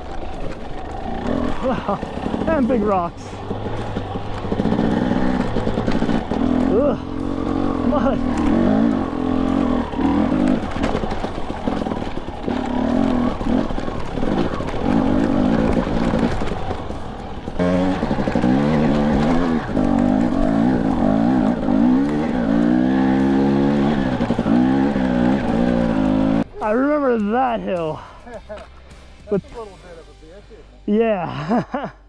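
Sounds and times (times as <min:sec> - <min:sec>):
dirt bike engine revving: 0:00.0 - 0:29.4.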